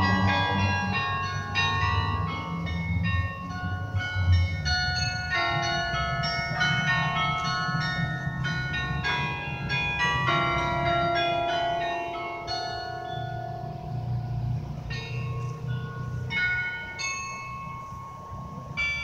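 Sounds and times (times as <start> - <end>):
carillon bells playing tune: 0.0 - 19.0.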